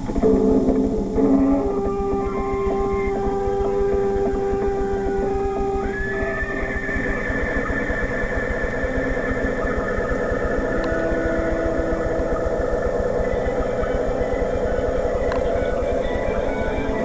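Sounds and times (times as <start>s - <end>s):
film music from television speaker: 0.0s - 17.0s.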